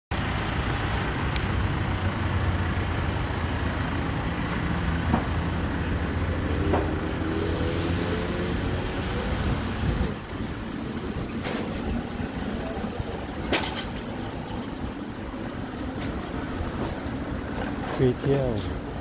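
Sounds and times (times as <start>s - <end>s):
road traffic rumble: 0.1s - 19.0s.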